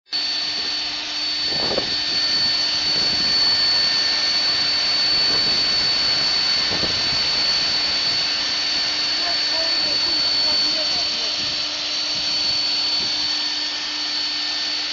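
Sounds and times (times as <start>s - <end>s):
router spindle whining: 0.1s - 14.9s.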